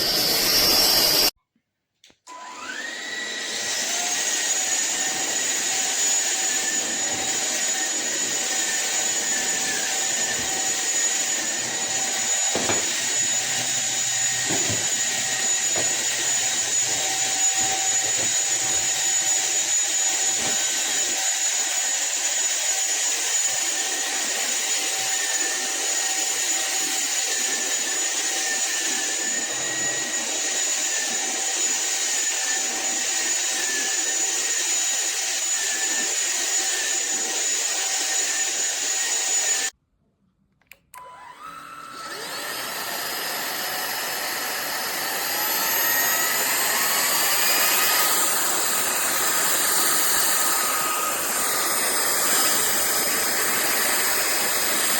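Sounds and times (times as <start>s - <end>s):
vacuum cleaner motor whine: 0.0s - 1.3s, 2.3s - 39.7s, 40.9s - 54.9s.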